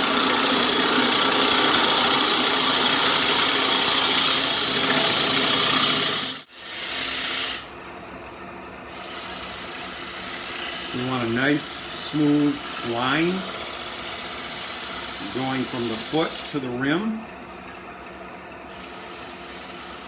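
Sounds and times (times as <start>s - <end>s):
lathe gouge scraping wood: 0.0s - 7.7s, 8.9s - 17.2s, 18.7s - 20.0s.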